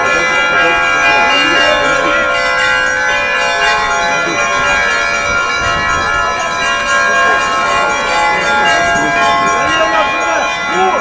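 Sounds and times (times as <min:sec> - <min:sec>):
church bells pealing: 0:00.0 - 0:11.0.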